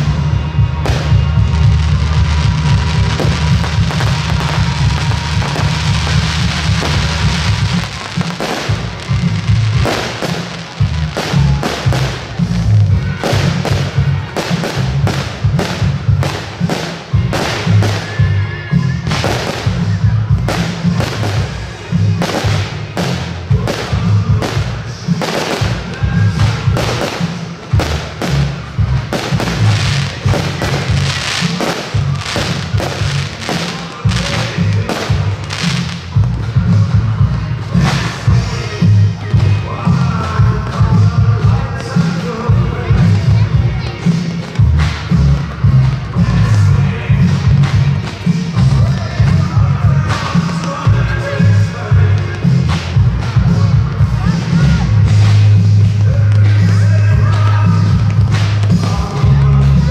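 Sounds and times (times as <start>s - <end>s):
fireworks bursting with sharp bangs: 0.0s - 59.9s
music with strong bass: 0.0s - 59.9s.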